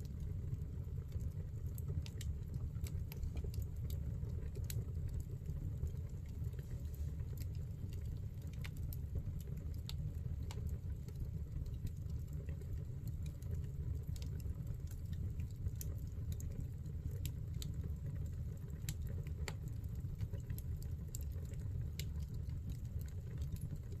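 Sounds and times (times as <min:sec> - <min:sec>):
firewood crackling and popping: 0:00.0 - 0:24.0
low rumble of flames: 0:00.0 - 0:24.0.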